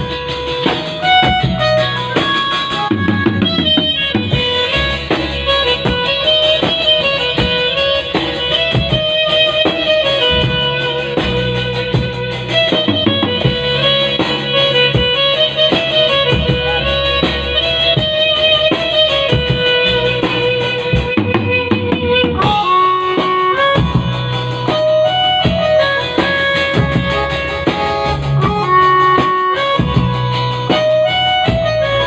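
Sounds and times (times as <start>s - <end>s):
guitar: 0.0s - 32.0s
instrumental music with beat: 0.0s - 32.0s.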